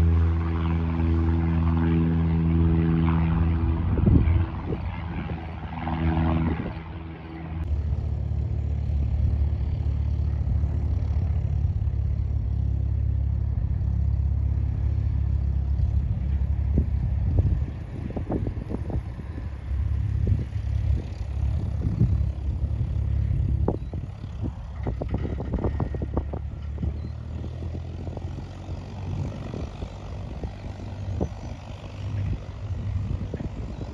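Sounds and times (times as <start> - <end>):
propeller aircraft engine drone: 0.0 - 33.9.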